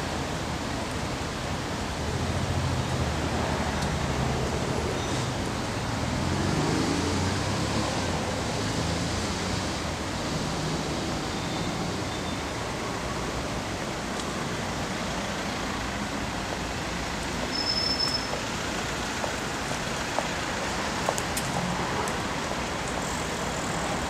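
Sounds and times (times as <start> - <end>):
low traffic rumble: 0.0 - 24.0
street hiss: 0.0 - 24.0.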